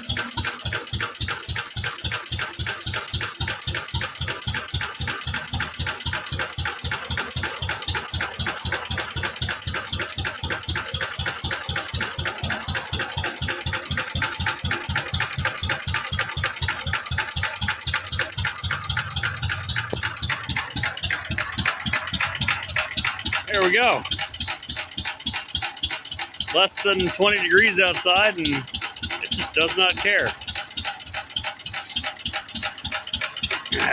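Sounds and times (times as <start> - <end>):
stationary engine running: 0.0 - 33.9.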